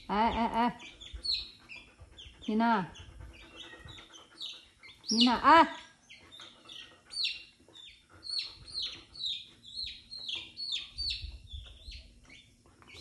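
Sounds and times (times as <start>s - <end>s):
baby chick peeping: 0.3s - 13.0s.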